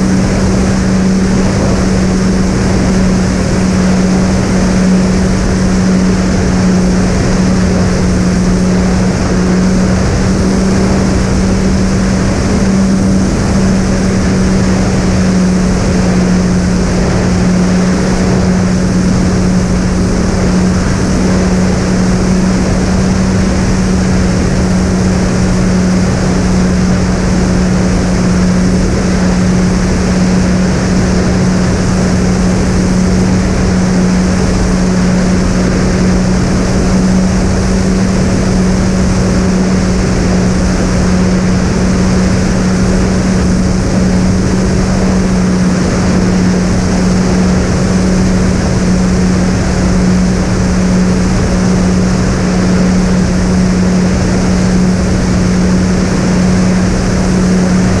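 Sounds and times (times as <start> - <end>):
wind rushing: 0.0 - 58.0.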